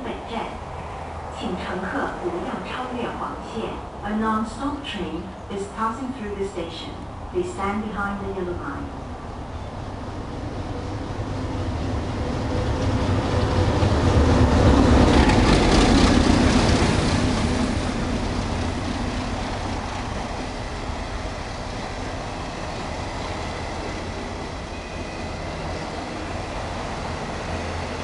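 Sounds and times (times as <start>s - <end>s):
diesel locomotive passing: 0.0s - 28.0s
passenger coaches rumbling by: 0.0s - 28.0s.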